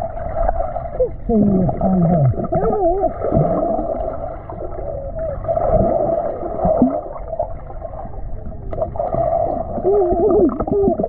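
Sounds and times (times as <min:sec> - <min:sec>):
muffled underwater water wash: 0:00.0 - 0:11.0.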